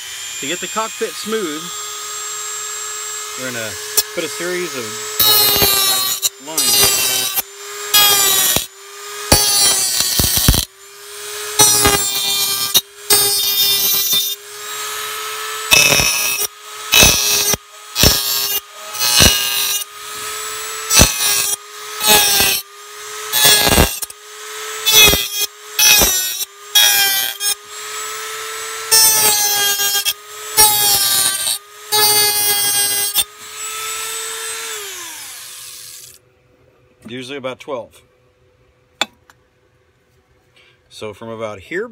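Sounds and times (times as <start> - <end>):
cutoff disc grinding metal: 0.0 - 36.2
rotary tool whining: 0.0 - 36.2.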